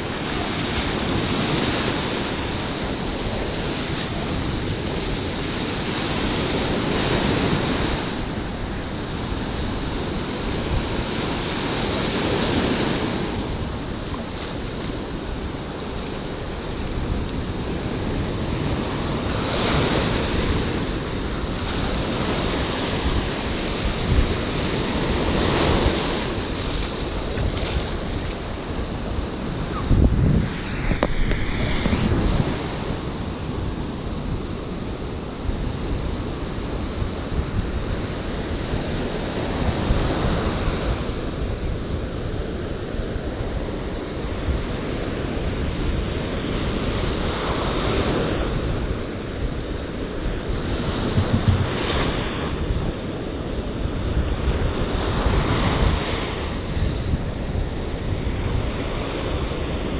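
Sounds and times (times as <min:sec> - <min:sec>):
surf breaking on beach: 0:00.0 - 0:59.9
wind buffeting microphone: 0:00.0 - 0:59.9.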